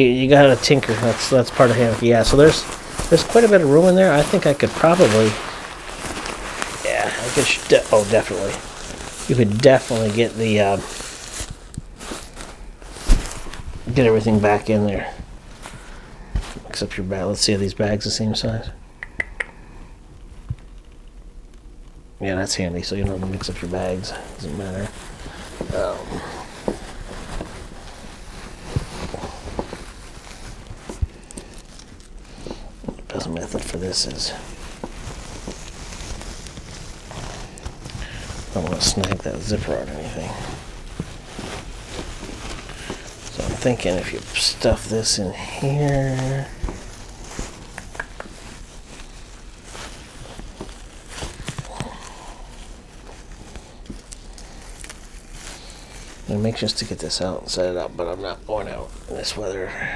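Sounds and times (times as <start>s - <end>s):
fabric rustling: 0.0s - 18.6s, 21.6s - 59.9s.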